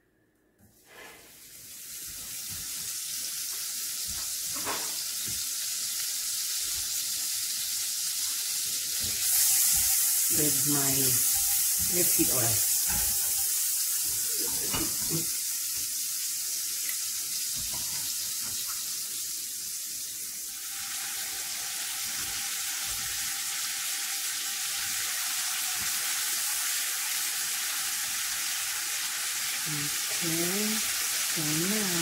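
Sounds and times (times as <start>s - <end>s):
oil sizzling in a frying pan: 0.8s - 32.0s.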